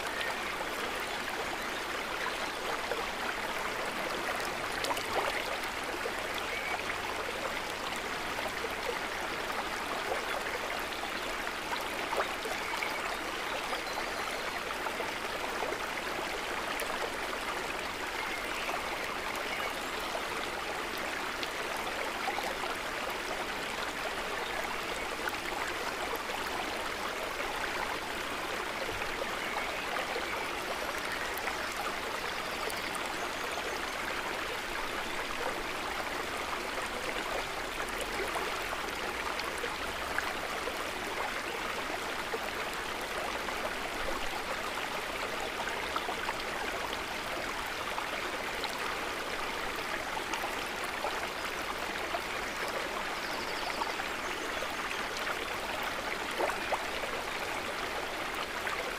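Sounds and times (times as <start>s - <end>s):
lake water trickling and burbling: 0.0s - 58.9s.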